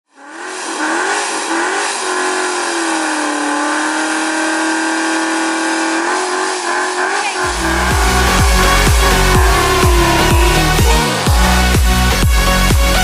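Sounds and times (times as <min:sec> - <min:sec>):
car engine revving high: 0:00.1 - 0:13.0.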